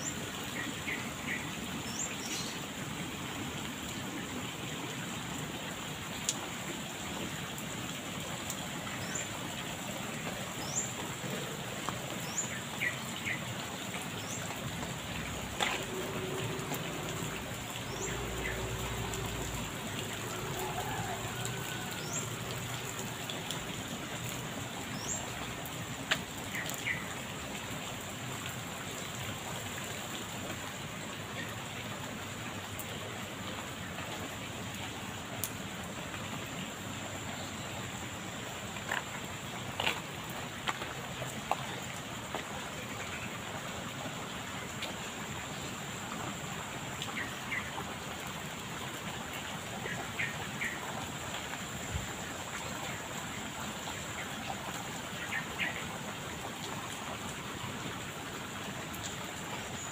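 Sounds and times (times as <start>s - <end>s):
rain falling on concrete and water: 0.0s - 59.9s.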